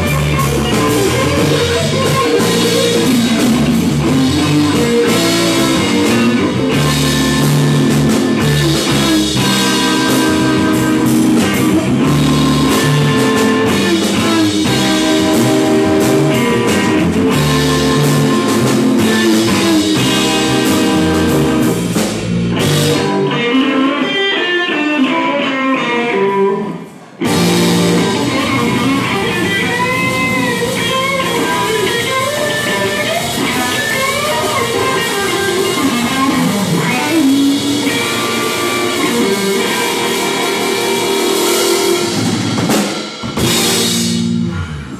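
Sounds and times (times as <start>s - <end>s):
blues band playing: 0.0s - 44.9s
electric guitar bent notes: 0.0s - 44.9s.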